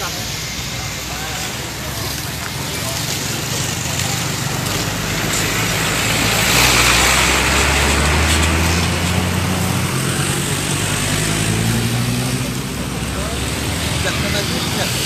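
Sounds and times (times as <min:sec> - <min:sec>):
vehicle engines running: 0:00.0 - 0:15.0
vehicle passing close: 0:00.0 - 0:15.0
engine rising in pitch: 0:01.1 - 0:15.0.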